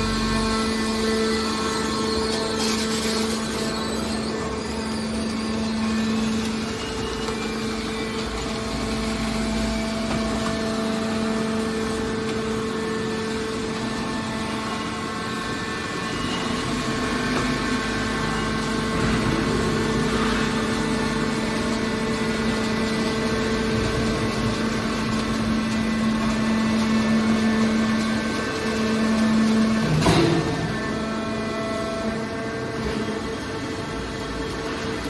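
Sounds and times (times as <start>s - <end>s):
motor droning: 0.0s - 35.0s
noisy background: 0.0s - 35.0s.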